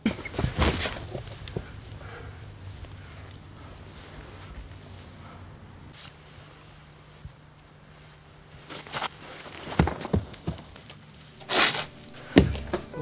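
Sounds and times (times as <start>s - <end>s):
faint low hum: 0.0s - 13.0s
high-pitched insect chorus: 0.0s - 13.0s.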